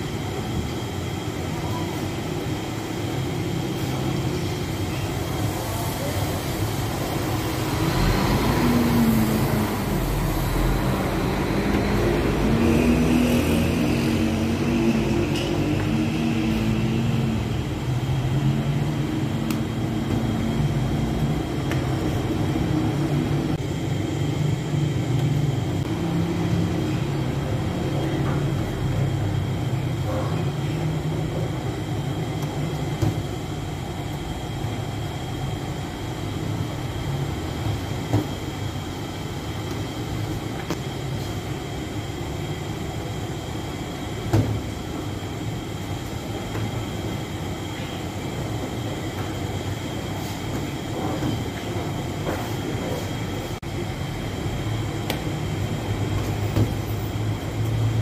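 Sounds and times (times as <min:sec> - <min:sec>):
bakery machinery rumbling: 0:00.0 - 0:58.0.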